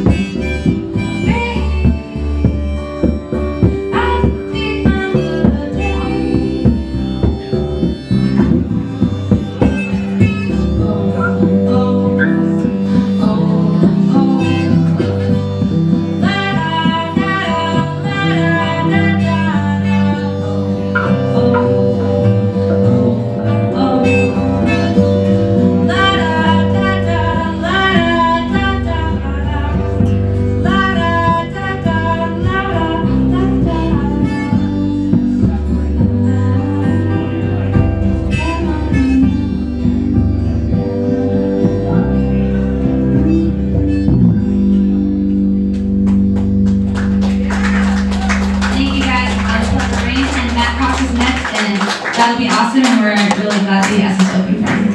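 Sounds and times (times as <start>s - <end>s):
band music with guitar: 0.0s - 54.9s
sustained bass notes: 0.0s - 54.9s
wavering melodic lead line: 0.0s - 54.9s.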